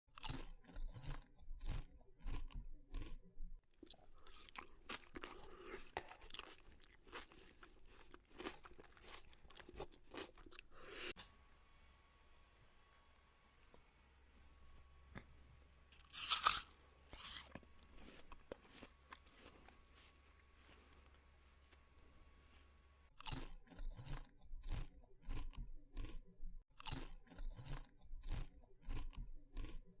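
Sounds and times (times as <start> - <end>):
crunchy food being chewed: 0.1 - 11.2, 15.9 - 30.0.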